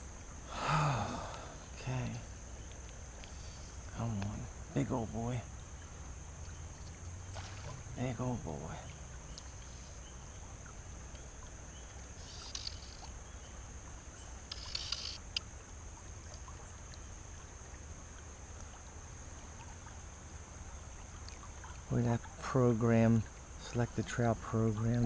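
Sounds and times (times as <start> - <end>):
stream water flowing: 0.0 - 25.0.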